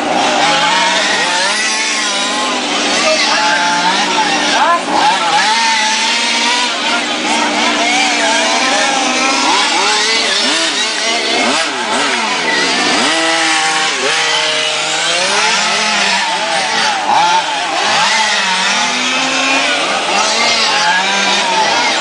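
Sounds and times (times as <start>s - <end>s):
model car motors revving: 0.0s - 22.0s.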